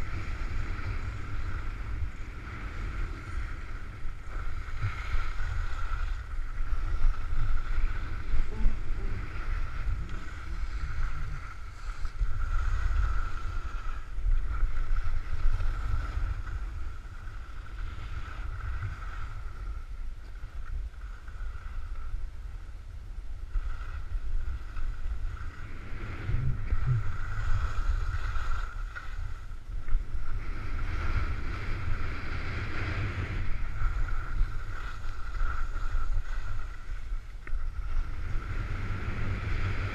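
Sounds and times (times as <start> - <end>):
skis sliding on snow: 0.0 - 19.8, 23.5 - 39.9
wind buffeting microphone: 0.0 - 39.9.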